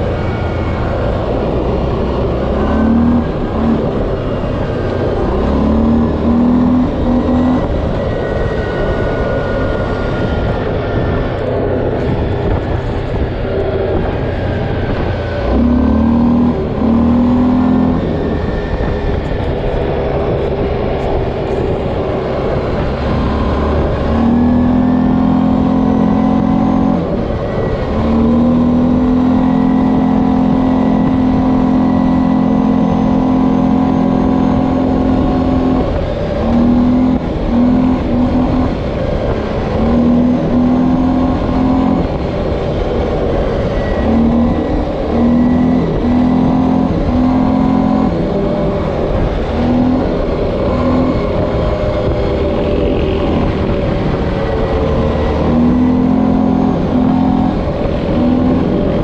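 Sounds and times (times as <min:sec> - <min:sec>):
atv engine revving: 0:00.0 - 0:59.0
low rumble: 0:00.0 - 0:59.0.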